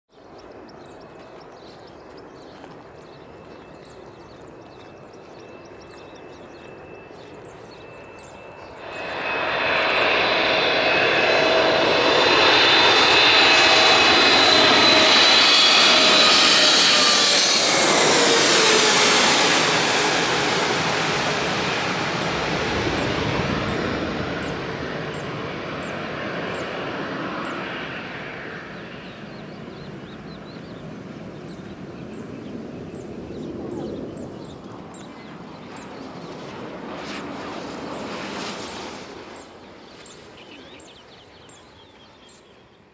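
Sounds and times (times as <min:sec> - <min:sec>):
jet passing low overhead: 0:00.2 - 0:42.9.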